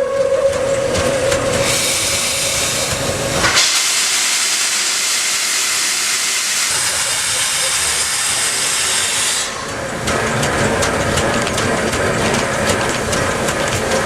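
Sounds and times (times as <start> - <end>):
steam locomotive venting steam: 0.0 - 14.0.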